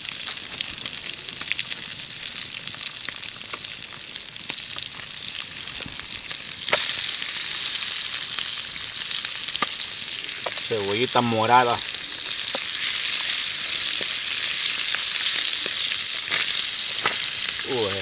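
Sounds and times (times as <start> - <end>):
fish frying in a pan: 0.0 - 18.0.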